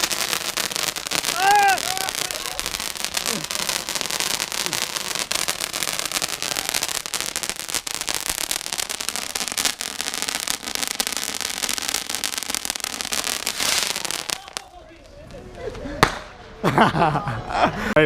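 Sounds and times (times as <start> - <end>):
fireworks crackling and popping: 0.0 - 16.6.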